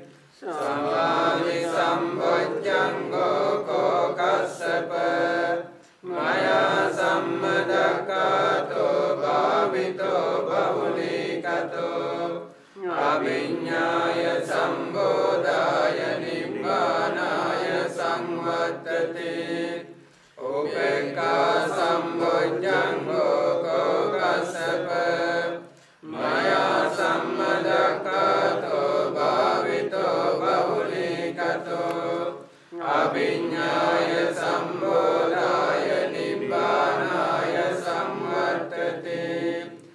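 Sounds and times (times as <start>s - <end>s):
monks chanting: 0.0s - 39.9s.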